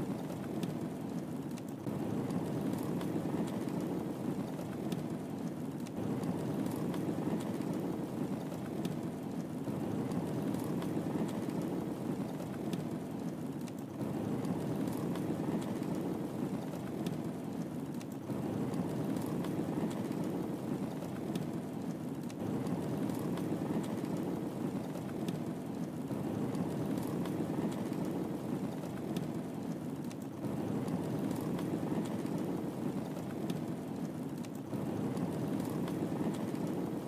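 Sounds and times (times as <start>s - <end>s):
fire crackles and pops: 0.0s - 37.0s.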